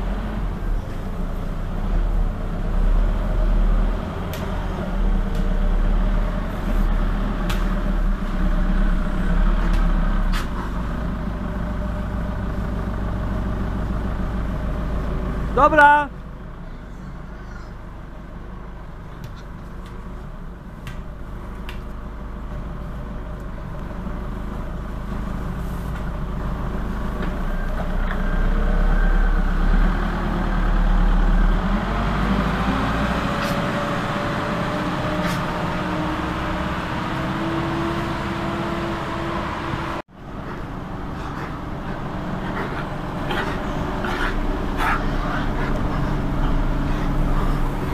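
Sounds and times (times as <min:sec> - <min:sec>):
diesel engine running under load: 0:00.0 - 0:47.9.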